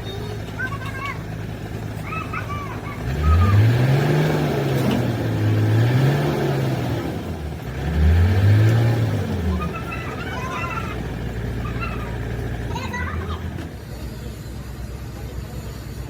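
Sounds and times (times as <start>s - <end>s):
engine idling and revving: 0.0s - 16.0s.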